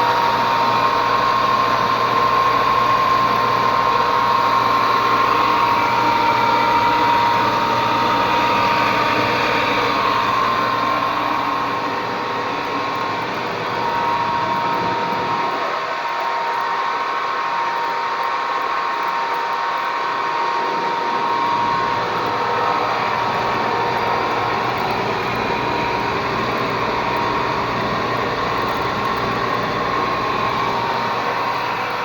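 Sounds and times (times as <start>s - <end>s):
power tool whining: 0.0s - 32.0s.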